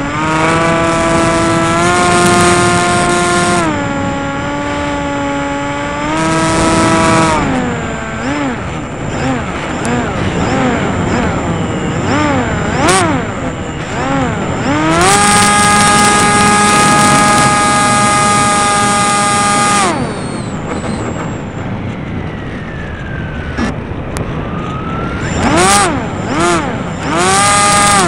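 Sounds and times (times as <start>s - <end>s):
model plane motor whine: 0.0s - 23.8s, 24.4s - 28.0s.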